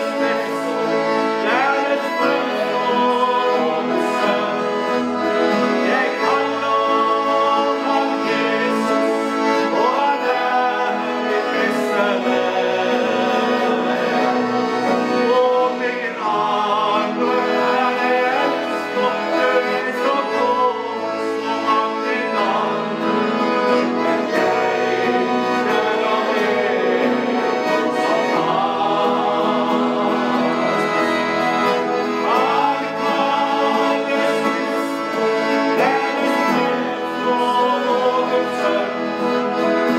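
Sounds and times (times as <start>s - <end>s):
accordion: 0.0s - 39.9s
men singing gospel song: 0.0s - 39.9s.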